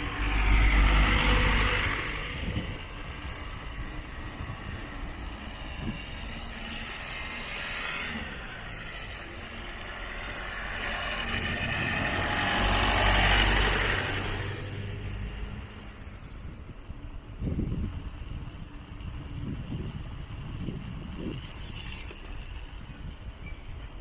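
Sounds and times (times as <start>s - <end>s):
wind rushing on microphone: 0.0s - 24.0s.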